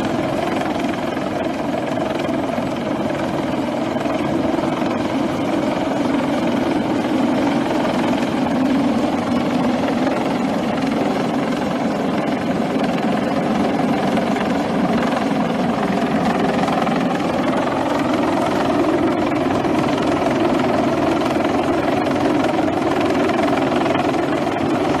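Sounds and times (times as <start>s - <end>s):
helicopter rotor whirring: 0.0s - 25.0s.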